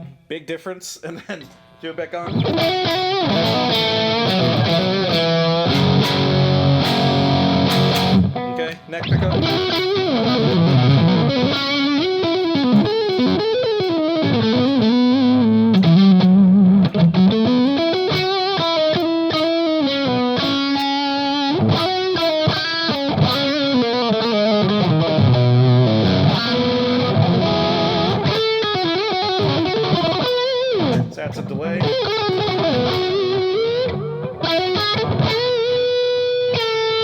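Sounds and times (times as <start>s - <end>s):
distorted electric guitar lead: 2.2s - 37.0s.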